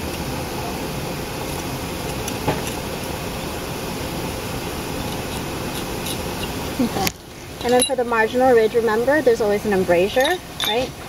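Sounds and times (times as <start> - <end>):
rumbling hissing machinery noise: 0.0 - 11.0.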